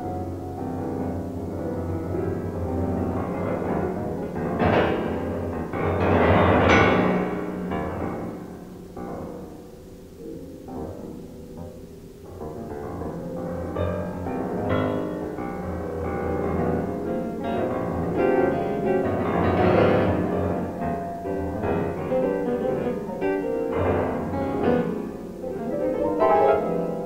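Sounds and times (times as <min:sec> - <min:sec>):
grand piano playing: 0:00.0 - 0:27.0.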